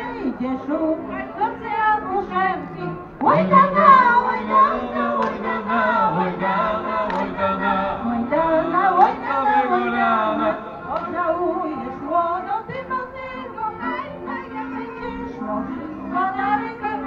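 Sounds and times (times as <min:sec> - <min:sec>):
group singing folk song: 0:00.0 - 0:17.0.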